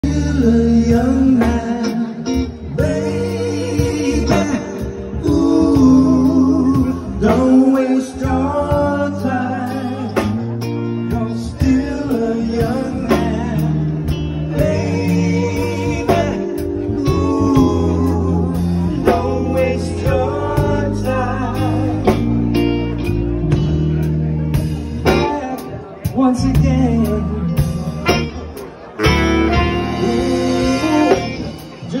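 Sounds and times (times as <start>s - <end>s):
funk band playing: 0.0s - 32.0s
man singing: 0.0s - 32.0s.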